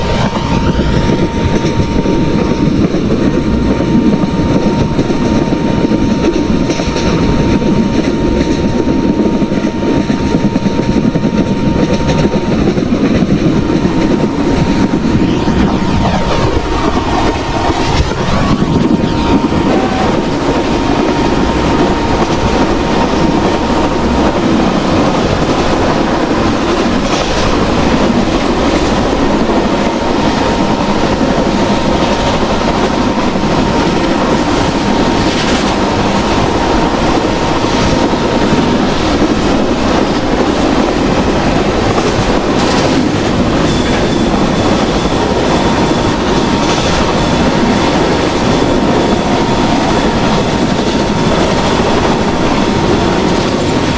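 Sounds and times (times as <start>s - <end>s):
train rumbling along track: 0.0s - 53.9s.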